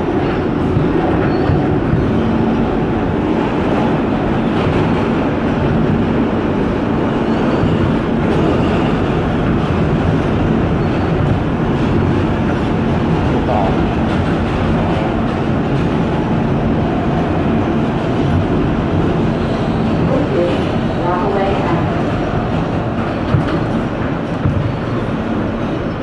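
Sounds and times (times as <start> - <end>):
subway car rumbling through tunnel: 0.0 - 26.0.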